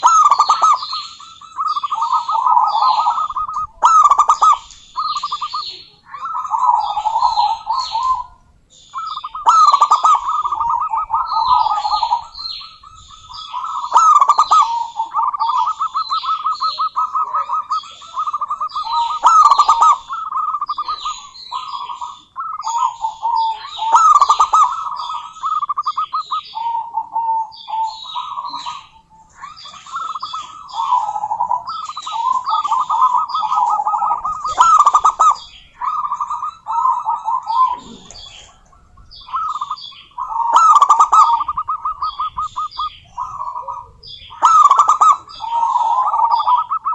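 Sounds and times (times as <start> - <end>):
dove trilled cooing: 0.0 - 46.9
higher-pitched bird chirping: 0.0 - 46.9.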